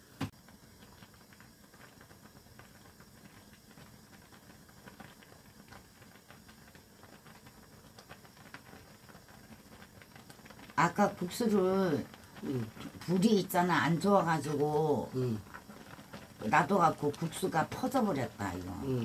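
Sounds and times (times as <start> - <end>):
noodles boiling and popping: 0.0 - 19.0.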